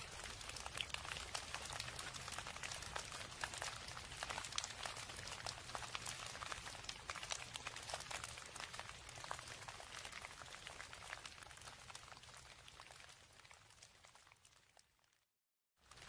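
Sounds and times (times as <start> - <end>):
rain pattering: 0.0 - 15.1.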